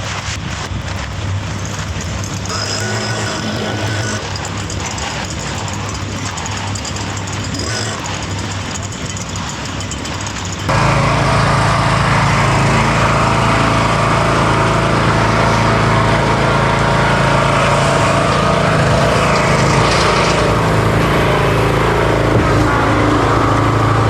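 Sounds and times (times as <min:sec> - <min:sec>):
small gasoline engine running: 0:00.0 - 0:24.0.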